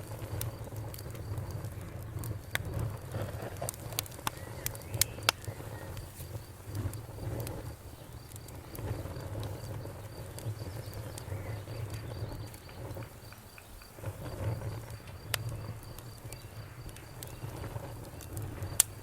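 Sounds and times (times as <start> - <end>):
bonfire crackling and popping: 0.0 - 19.0
cricket chirping: 0.0 - 19.0.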